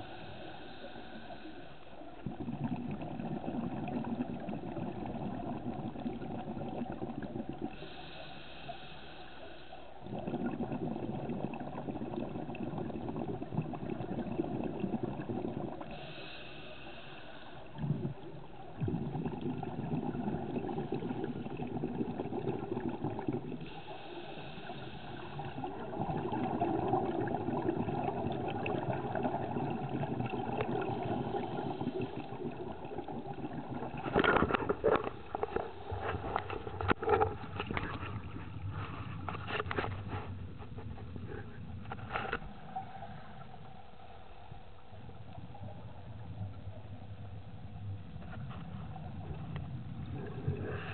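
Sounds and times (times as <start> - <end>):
underwater rumbling and churning: 0.0 - 50.9.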